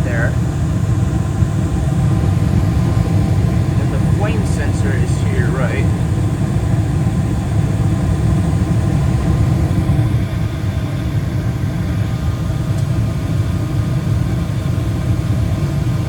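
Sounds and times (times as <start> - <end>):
furnace low rumble: 0.0 - 16.0.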